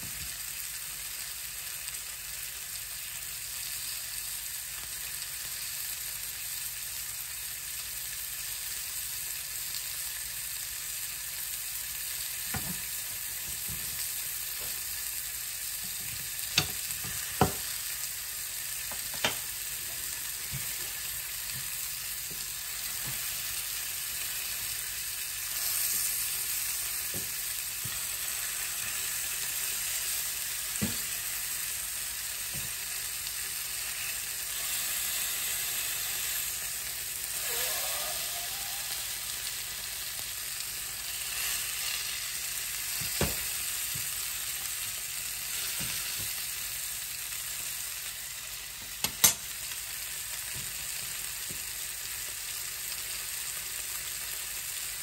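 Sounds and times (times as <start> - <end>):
meat sizzling in a frying pan: 0.0 - 55.0.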